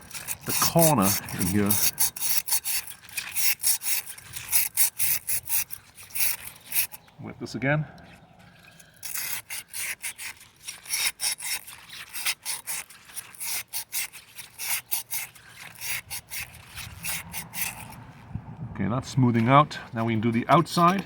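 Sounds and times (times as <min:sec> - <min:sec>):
glass rubbing on wet sandpaper: 0:00.0 - 0:07.1, 0:08.5 - 0:18.3, 0:19.4 - 0:21.0.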